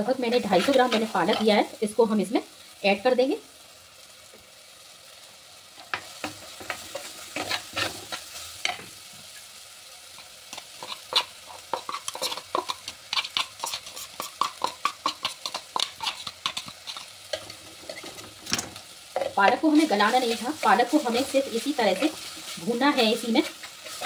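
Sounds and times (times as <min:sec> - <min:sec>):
steady sizzle: 0:00.0 - 0:24.0.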